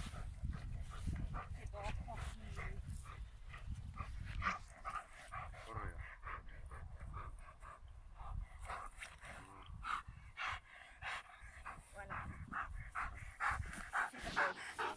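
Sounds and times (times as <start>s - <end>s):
dog panting: 0.0s - 14.9s.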